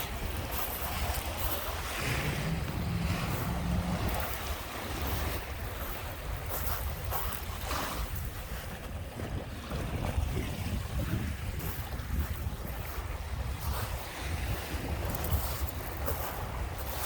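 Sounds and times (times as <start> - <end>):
waves washing onto a beach: 0.0 - 17.0
wind buffeting the microphone: 0.0 - 17.0.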